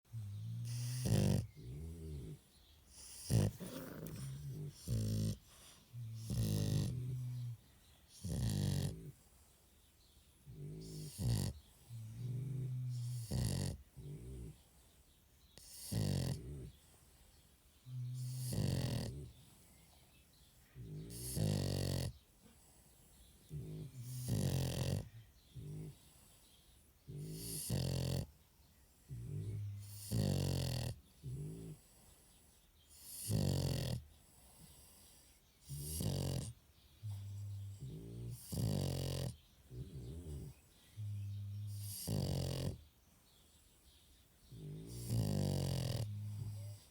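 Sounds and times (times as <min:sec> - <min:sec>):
dog snoring: 0:00.1 - 0:09.3, 0:10.4 - 0:14.6, 0:15.6 - 0:16.9, 0:17.8 - 0:19.5, 0:20.8 - 0:22.8, 0:23.4 - 0:26.3, 0:27.1 - 0:28.4, 0:29.1 - 0:32.2, 0:32.9 - 0:42.9, 0:44.5 - 0:46.9.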